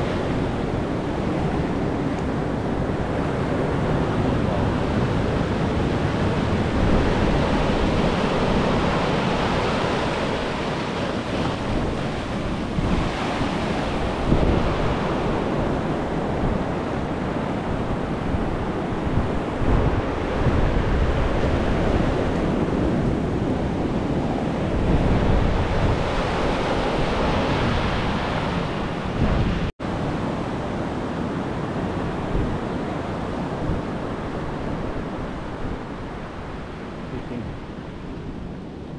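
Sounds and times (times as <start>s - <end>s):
ocean surf: 0.0s - 38.9s
wind buffeting microphone: 0.0s - 38.9s.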